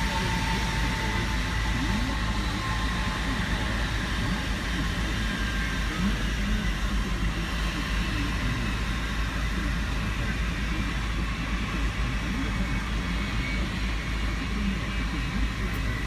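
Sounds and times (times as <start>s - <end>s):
faint high whine: 0.0s - 16.0s
low engine rumble: 0.0s - 16.0s.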